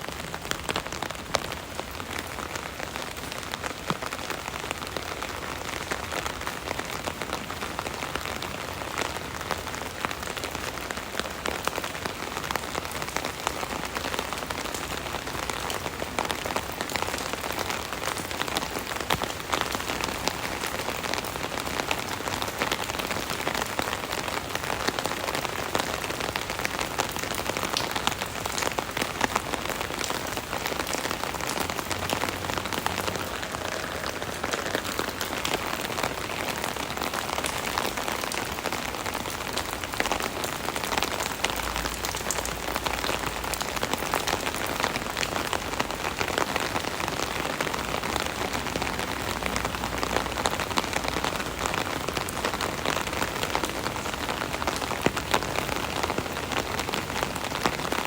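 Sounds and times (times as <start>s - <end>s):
rain drumming on an umbrella: 0.0s - 58.0s.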